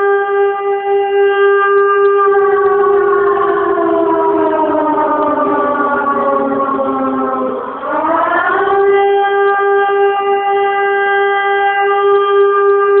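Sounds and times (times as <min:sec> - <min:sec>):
air-raid siren wailing: 0:00.0 - 0:13.0.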